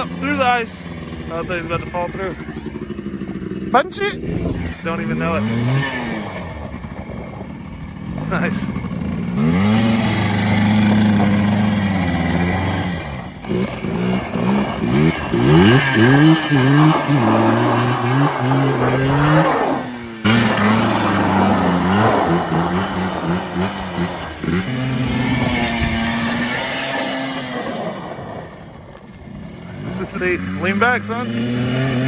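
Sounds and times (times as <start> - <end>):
two-stroke atv engine revving: 0.0 - 32.0.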